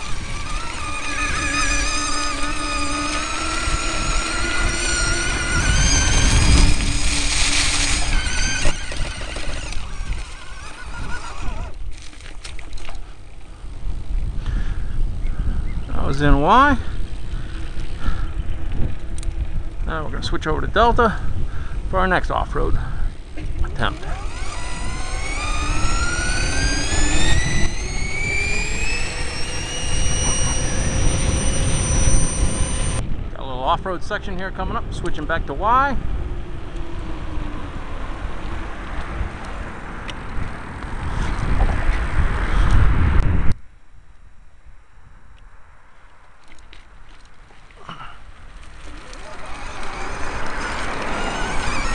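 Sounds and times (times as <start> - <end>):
electric motor whine: 0.0 - 21.9, 22.6 - 33.0, 34.1 - 43.3, 47.9 - 51.9
rumble and rattle: 0.0 - 43.6.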